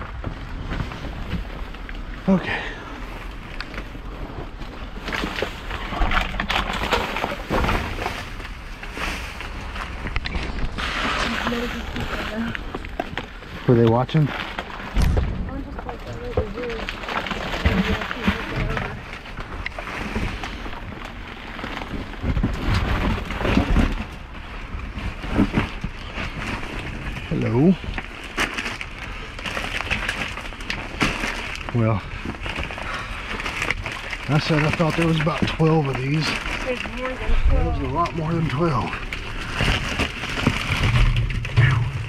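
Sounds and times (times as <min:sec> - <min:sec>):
bags rustling and knocking: 0:00.0 - 0:42.0.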